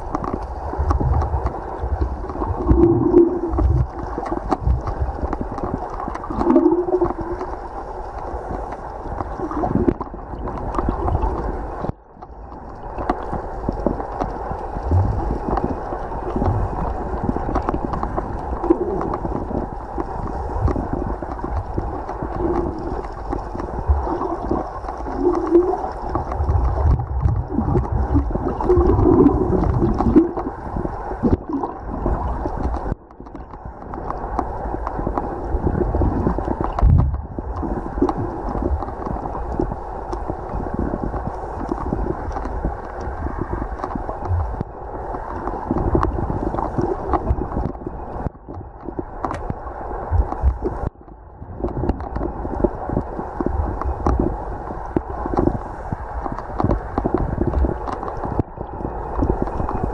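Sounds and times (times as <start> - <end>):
underwater water rushing and gurgling: 0.0 - 59.9.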